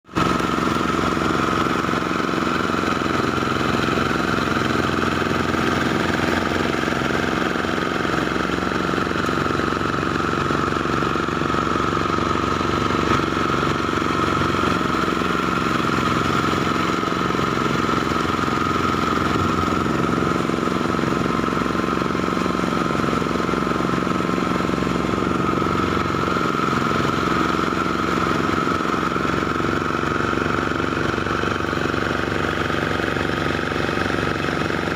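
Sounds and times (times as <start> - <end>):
thresher motor droning: 0.1 - 34.9
constant high whine: 0.2 - 34.9.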